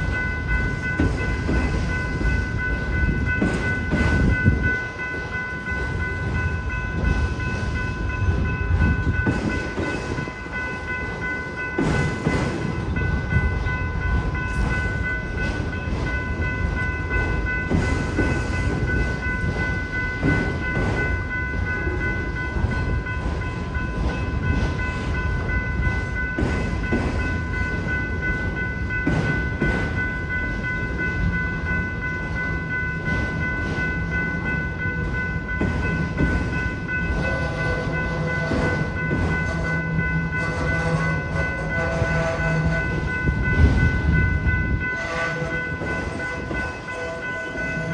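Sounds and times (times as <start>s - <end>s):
crossing bell ringing: 0.0s - 47.9s
freight train wheels clacking: 0.0s - 47.9s.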